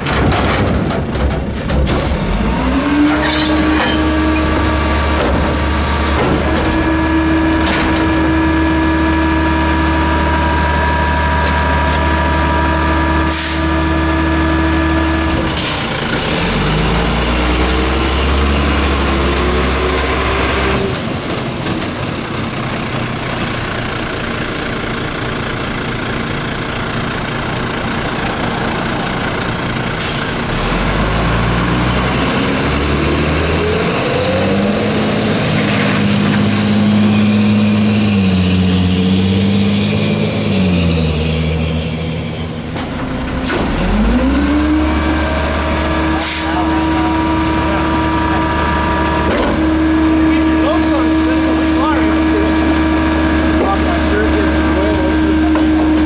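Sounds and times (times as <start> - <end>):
garbage truck engine whining: 0.0 - 56.0.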